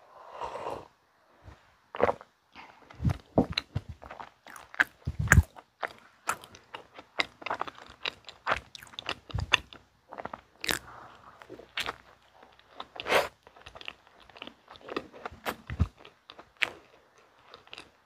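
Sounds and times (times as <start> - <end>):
close chewing with mouth clicks: 2.8 - 18.0.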